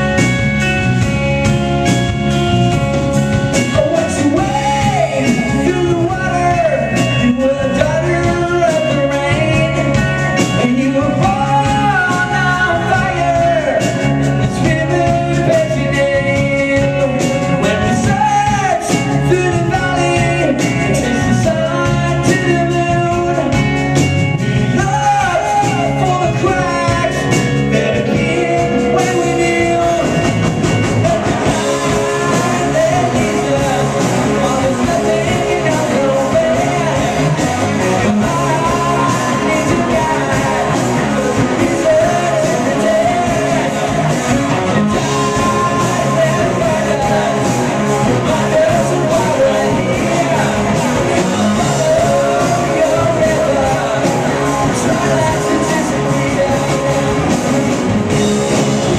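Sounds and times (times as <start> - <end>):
distorted electric guitars: 0.0 - 58.9
drum kit: 0.0 - 58.9.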